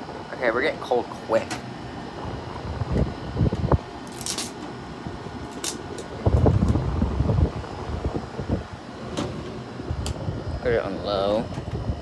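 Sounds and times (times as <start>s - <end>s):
air conditioner fan rushing: 0.0s - 12.0s.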